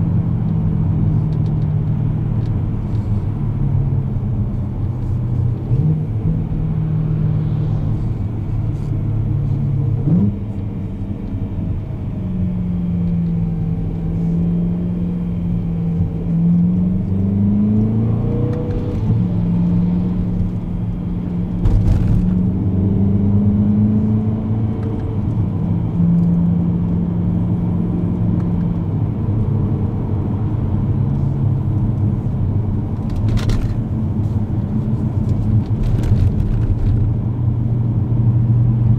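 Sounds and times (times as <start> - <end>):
car engine shifting gears: 0.0 - 38.9.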